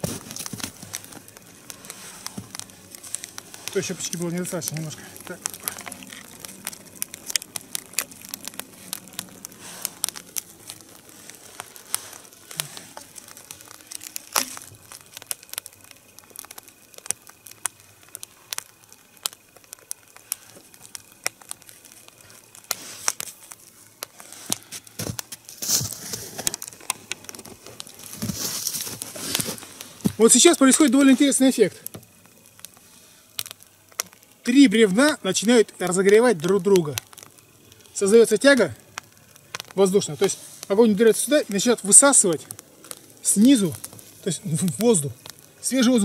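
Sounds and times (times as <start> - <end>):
fire hiss: 0.0 - 46.0
wood fire crackling: 0.0 - 46.0.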